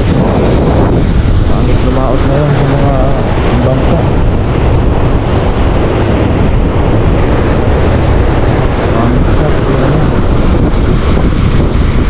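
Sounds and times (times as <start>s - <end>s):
surf breaking on rocky shore: 0.0s - 12.0s
wind buffeting microphone: 0.0s - 12.0s.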